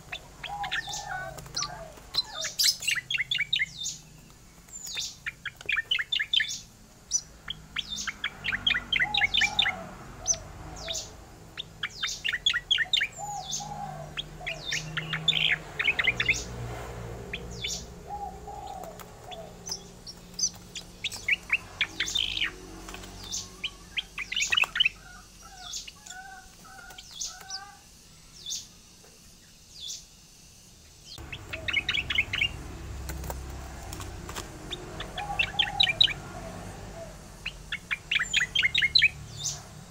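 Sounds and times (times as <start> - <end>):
bird singing rapid chirps: 0.0 - 30.2, 30.8 - 39.9.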